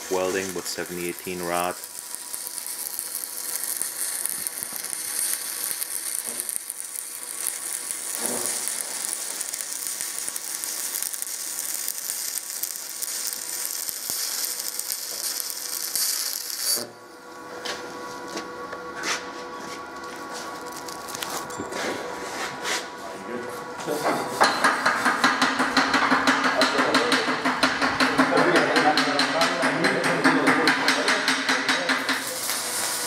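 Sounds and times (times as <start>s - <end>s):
welding arc crackling and sizzling: 0.0s - 22.6s, 23.6s - 29.4s, 30.4s - 33.0s.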